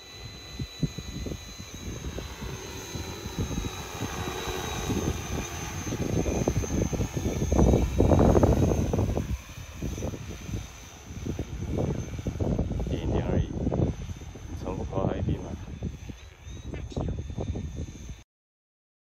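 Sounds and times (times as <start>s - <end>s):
drone rotors whining: 0.0s - 18.2s
gusty low rumble: 0.0s - 18.2s.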